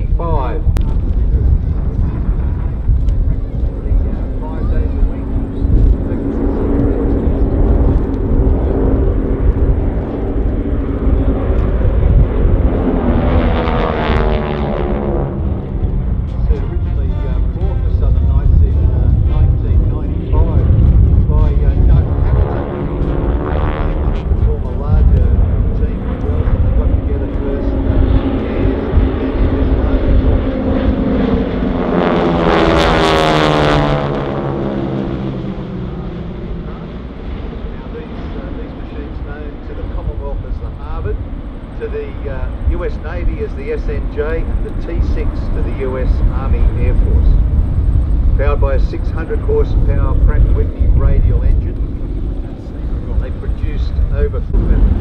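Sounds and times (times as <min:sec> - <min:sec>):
propeller planes flying overhead: 0:00.0 - 0:55.0.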